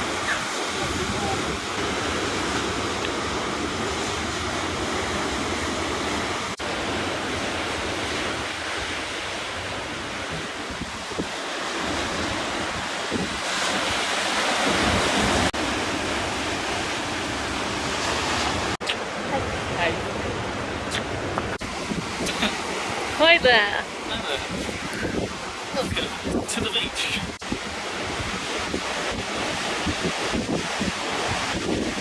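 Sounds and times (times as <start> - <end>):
sea waves washing onto beach: 0.0 - 32.0
wind on microphone: 0.0 - 32.0.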